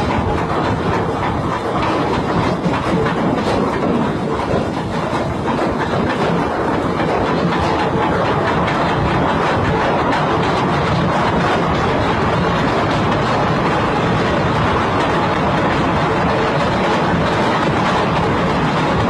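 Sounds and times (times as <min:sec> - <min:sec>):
heavy vehicle rumbling and clattering: 0:00.0 - 0:19.0.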